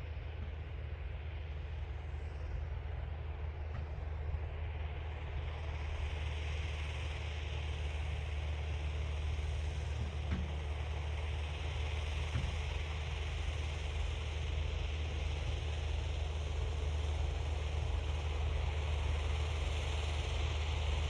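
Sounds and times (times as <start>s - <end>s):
tractor engine with rotary tiller: 0.0s - 21.0s.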